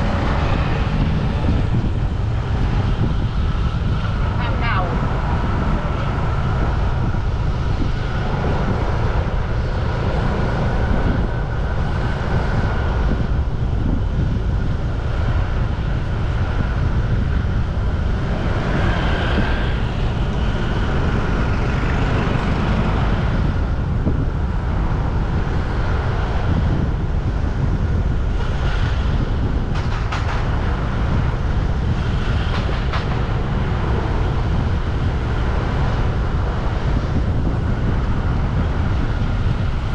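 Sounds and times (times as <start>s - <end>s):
road traffic: 0.0s - 39.9s
wind rumble on microphone: 0.0s - 39.9s.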